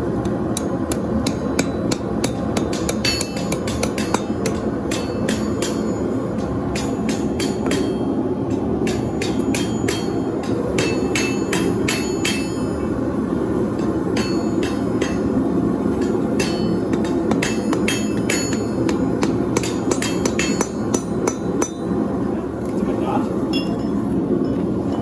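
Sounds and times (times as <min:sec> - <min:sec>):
steady rushing noise: 0:00.0 - 0:25.0
hammer striking steel on anvil: 0:00.2 - 0:12.8, 0:13.8 - 0:22.0, 0:23.5 - 0:24.0.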